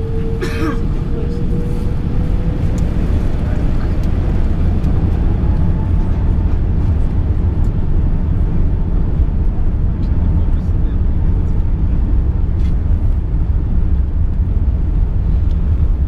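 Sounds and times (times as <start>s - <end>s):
aircraft engines low rumble: 0.0s - 16.0s
faint engine whine: 0.0s - 16.0s.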